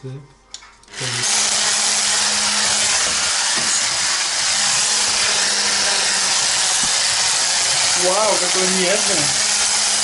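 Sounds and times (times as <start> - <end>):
stick blender whisking: 0.9 - 10.0.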